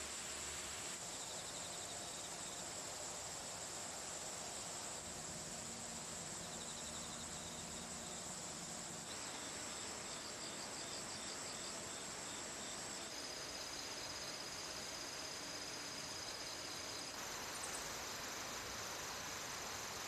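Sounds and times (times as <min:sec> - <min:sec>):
insects buzzing: 0:00.0 - 0:20.0
rapid pulsed insect chirps: 0:00.0 - 0:20.0.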